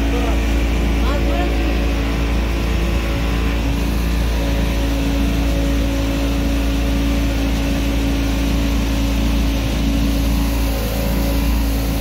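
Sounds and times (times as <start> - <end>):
motorboat engine drone: 0.0 - 12.0.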